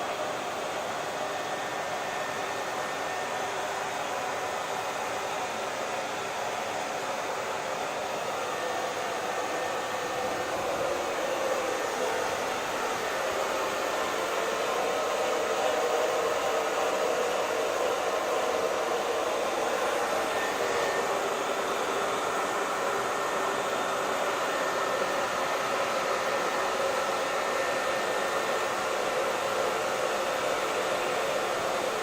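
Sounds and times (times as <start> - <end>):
hair dryer blowing: 0.0 - 32.0.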